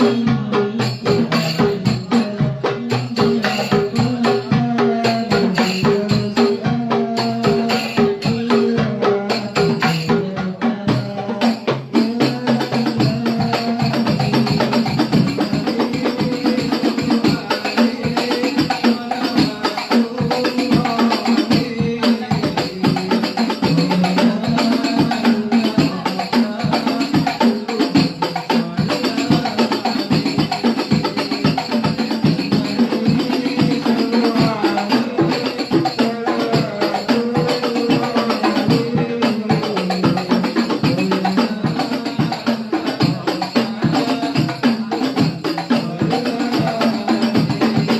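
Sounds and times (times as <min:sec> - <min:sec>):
fast darbuka drum strokes: 0:00.0 - 0:47.9.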